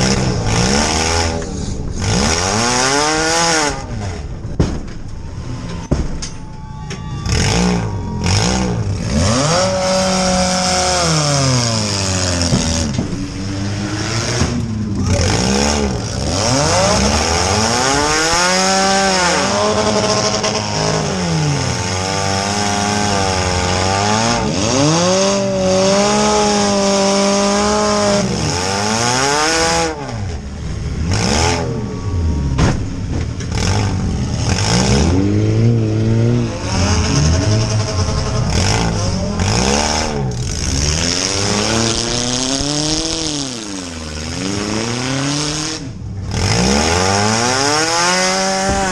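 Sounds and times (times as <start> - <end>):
car engine revving: 0.0 - 6.2, 7.2 - 48.9.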